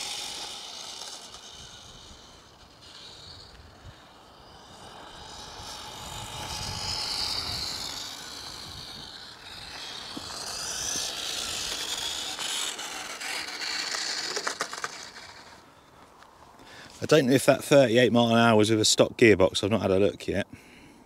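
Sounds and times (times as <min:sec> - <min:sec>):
rc truck motor whine: 0:00.0 - 0:17.0.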